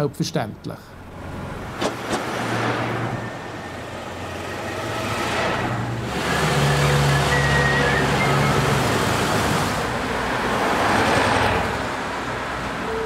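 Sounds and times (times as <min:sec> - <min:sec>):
cars driving past: 0:00.9 - 0:13.0.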